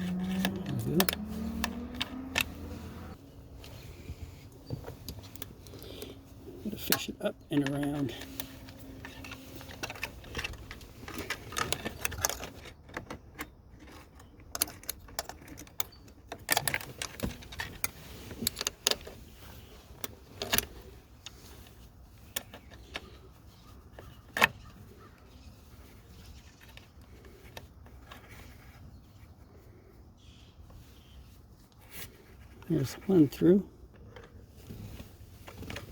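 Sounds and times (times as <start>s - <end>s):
wires clicking and scraping: 0.0s - 29.7s.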